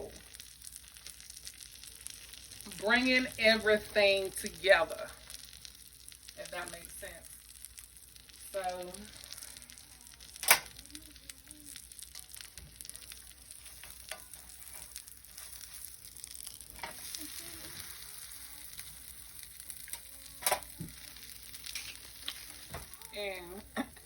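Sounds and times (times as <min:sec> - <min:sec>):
sandwich sizzling in a pan: 0:00.0 - 0:24.0.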